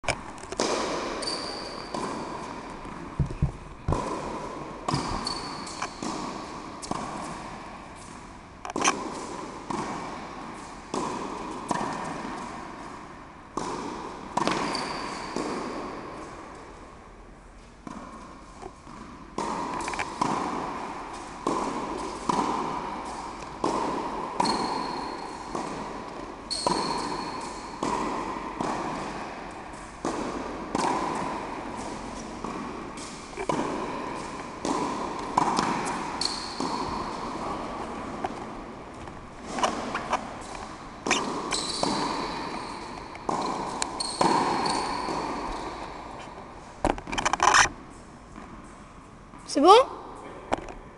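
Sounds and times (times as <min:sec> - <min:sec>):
tennis ball struck with racket: 0:00.5 - 0:07.7, 0:08.7 - 0:12.8, 0:13.5 - 0:16.3, 0:18.9 - 0:46.2.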